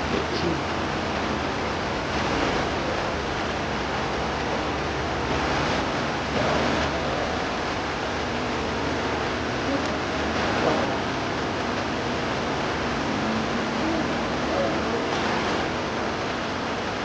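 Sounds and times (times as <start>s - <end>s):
sea waves rushing: 0.0s - 17.0s.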